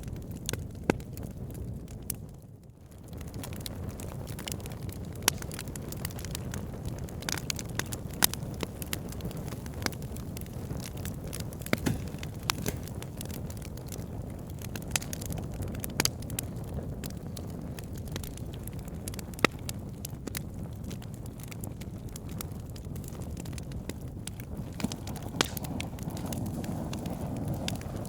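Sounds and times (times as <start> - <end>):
burning logs crackling and popping: 0.0 - 28.0
low rumble of flames: 0.0 - 28.0.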